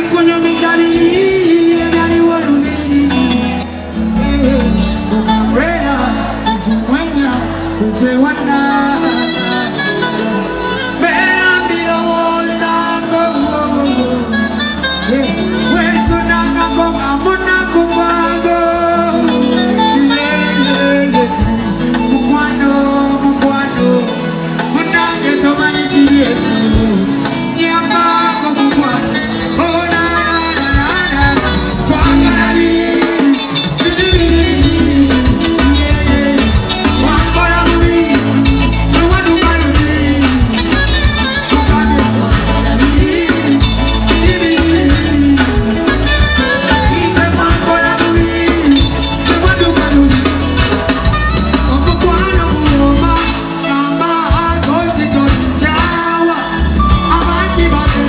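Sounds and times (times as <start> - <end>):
bass: 0.0 - 58.0
drum kit: 0.0 - 58.0
electric guitar: 0.0 - 58.0
live pop band: 0.0 - 58.0
man singing: 0.0 - 58.0.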